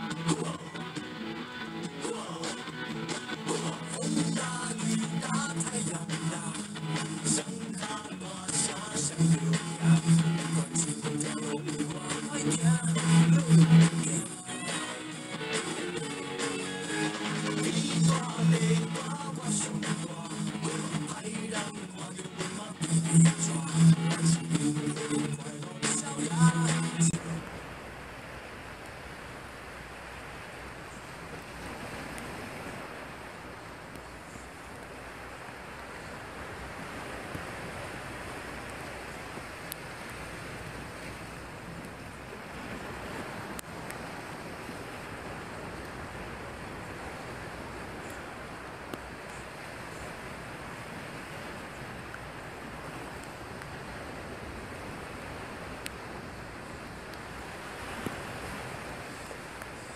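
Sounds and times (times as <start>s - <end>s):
surf breaking on rocky shore: 0.0s - 59.9s
wind: 0.0s - 59.9s.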